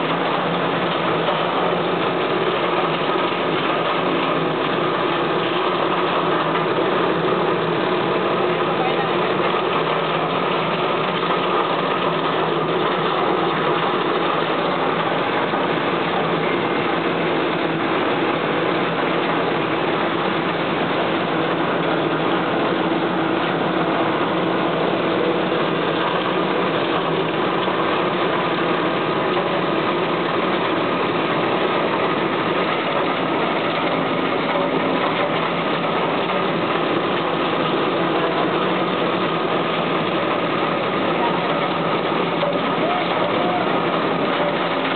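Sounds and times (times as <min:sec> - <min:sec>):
de-huller machine running: 0:00.0 - 0:44.9.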